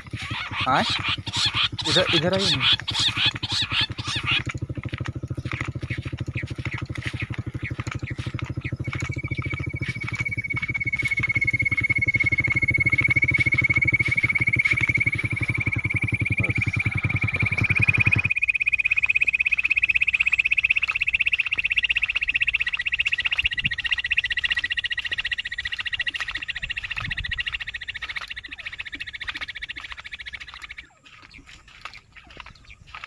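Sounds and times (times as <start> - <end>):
high-pitched pulsing trill: 0.0 - 33.0
low pulsing sound: 0.0 - 33.0.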